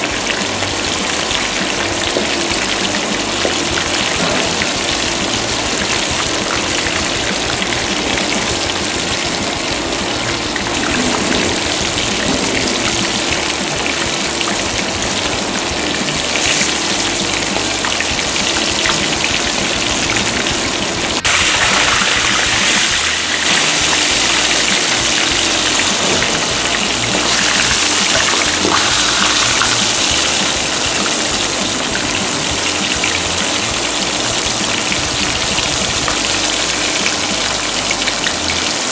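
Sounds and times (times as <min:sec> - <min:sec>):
hot oil sizzling and crackling: 0:00.0 - 0:38.9.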